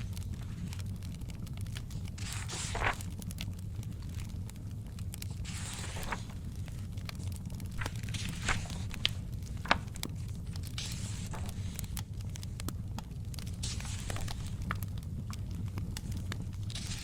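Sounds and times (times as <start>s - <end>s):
book pages turning: 0.0s - 4.3s, 5.3s - 17.0s
fireplace fire crackling: 0.0s - 17.0s.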